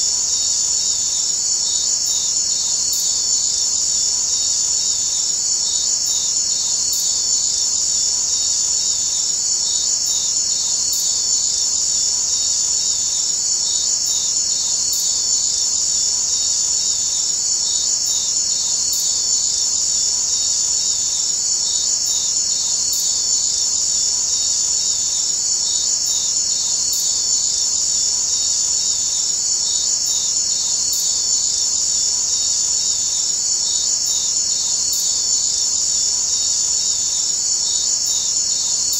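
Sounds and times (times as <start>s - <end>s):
insect chorus chirring: 0.0s - 38.9s.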